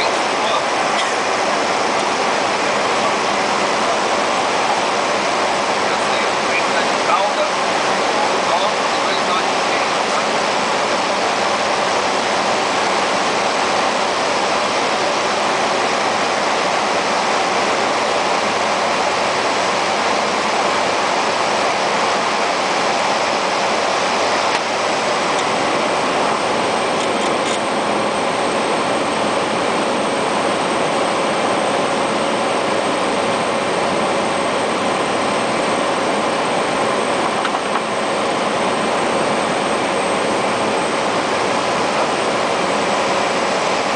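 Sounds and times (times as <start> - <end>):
turboprop engine running: 0.0 - 43.9.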